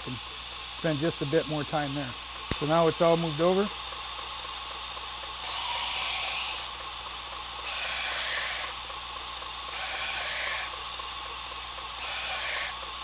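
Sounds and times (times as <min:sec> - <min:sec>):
grinder motor hum: 0:00.0 - 0:13.0
knife grinding on belt grinder: 0:00.0 - 0:13.0.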